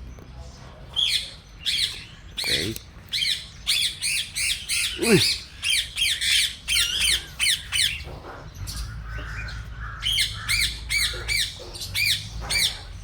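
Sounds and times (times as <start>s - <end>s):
caged birds squawking: 0.8s - 13.0s.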